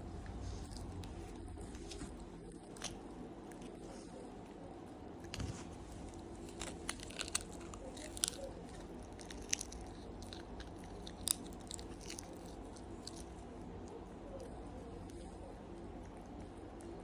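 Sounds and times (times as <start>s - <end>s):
low room hum: 0.0s - 17.0s
pet crunching a hard treat: 0.0s - 17.0s.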